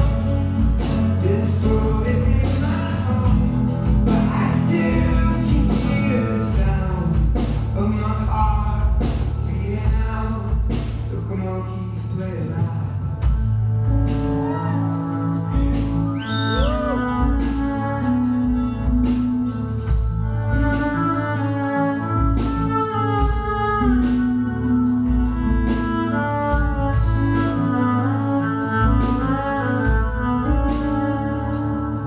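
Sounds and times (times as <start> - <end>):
acoustic guitar: 0.0 - 32.0
lead instrument melody: 0.0 - 32.0.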